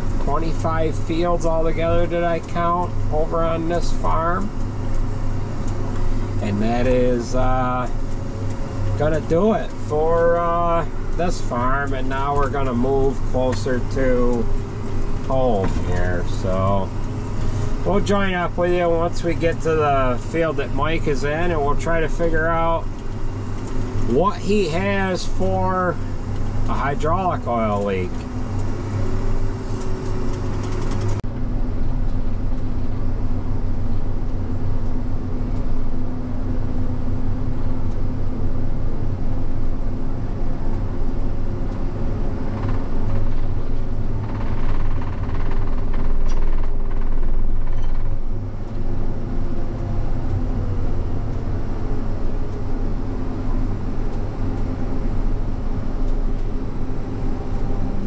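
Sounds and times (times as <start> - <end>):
road noise: 0.0 - 58.0
vehicle engine drone: 0.0 - 58.0.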